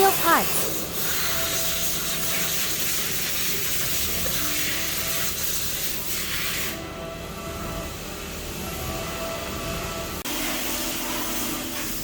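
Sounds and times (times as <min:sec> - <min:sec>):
cnc machine cutting steel: 0:00.0 - 0:12.0.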